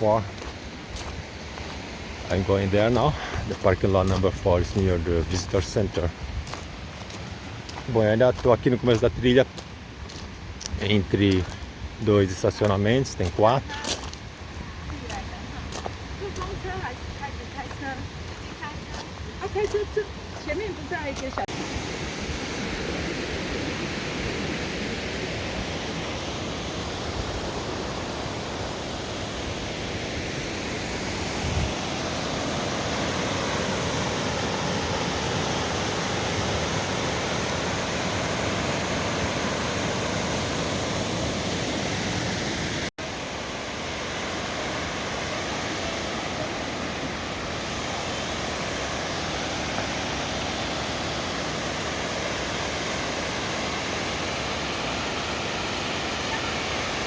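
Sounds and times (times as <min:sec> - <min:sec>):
river water rushing: 0:00.0 - 0:10.6, 0:11.2 - 0:57.0.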